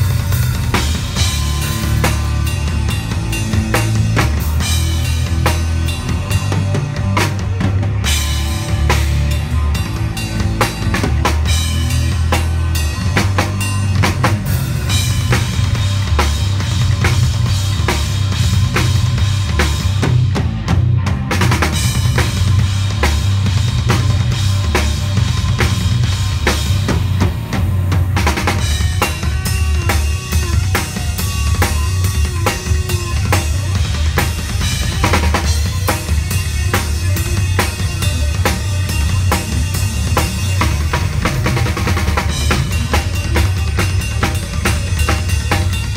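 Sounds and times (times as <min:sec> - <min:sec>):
bass line: 0:00.0 - 0:45.9
drum kit beat: 0:00.0 - 0:45.9.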